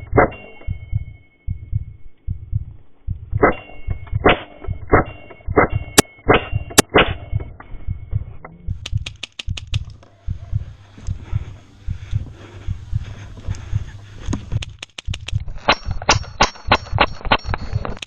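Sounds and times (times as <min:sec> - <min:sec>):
low thumps of movement: 0:00.0 - 0:05.8, 0:06.5 - 0:15.5.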